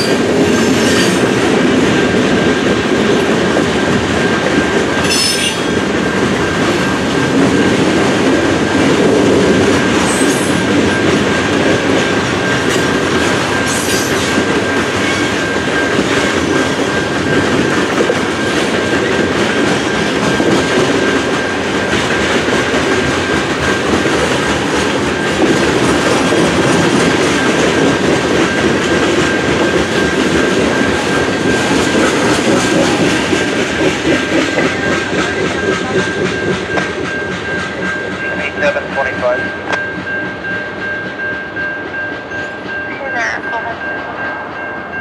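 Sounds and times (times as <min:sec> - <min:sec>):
crossing bell ringing: 0:00.0 - 0:45.0
train wheels clickety-clack: 0:00.0 - 0:45.0.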